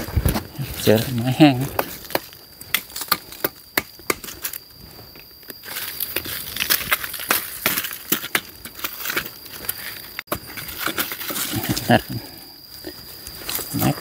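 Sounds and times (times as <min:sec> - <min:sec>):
dry leaves and wood crunching: 0:00.0 - 0:14.0.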